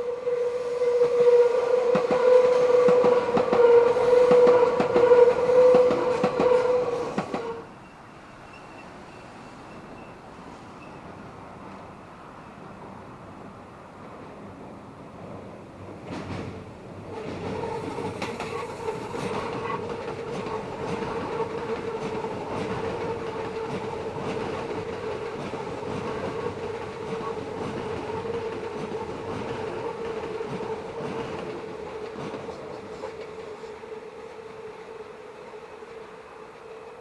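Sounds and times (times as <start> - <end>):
train wheels squealing on rail: 0.0 - 13.2, 16.1 - 37.0
train wheels rumbling and clacking: 1.0 - 7.7, 14.0 - 37.0.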